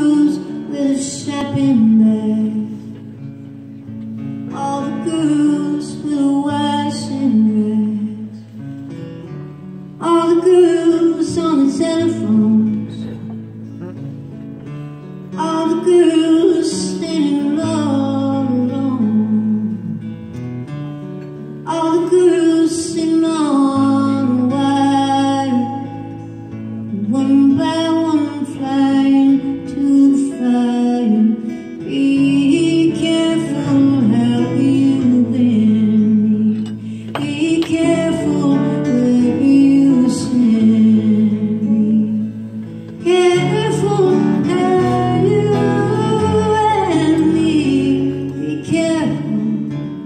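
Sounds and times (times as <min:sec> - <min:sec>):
woman singing: 0:00.0 - 0:03.3, 0:04.3 - 0:08.7, 0:10.0 - 0:13.3, 0:15.3 - 0:20.2, 0:21.6 - 0:50.0
guitars ringing: 0:00.0 - 0:50.0.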